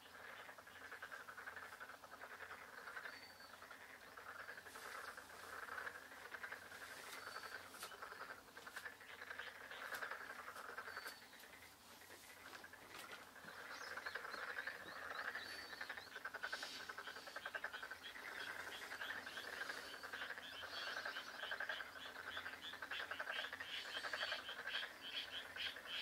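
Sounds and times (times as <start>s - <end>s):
higher repeating frog call: 0.0s - 11.7s, 12.3s - 26.0s
chorus of frogs croaking: 0.0s - 26.0s.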